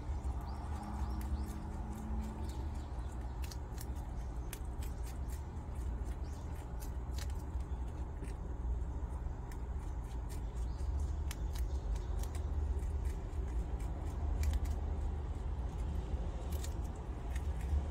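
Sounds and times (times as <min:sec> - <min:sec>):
animal crunching watermelon rind: 0:00.0 - 0:17.9
steady low hum: 0:00.0 - 0:17.9.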